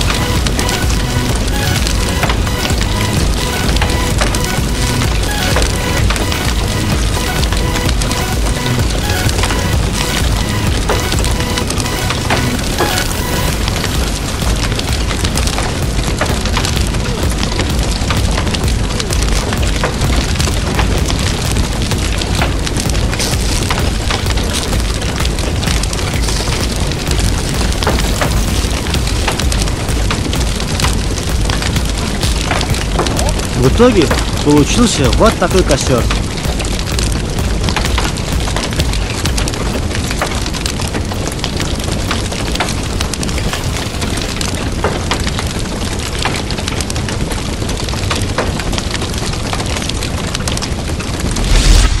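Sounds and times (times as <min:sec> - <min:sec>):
fire low rumble: 0:00.0 - 0:52.0
wood fire crackling and popping: 0:00.0 - 0:52.0.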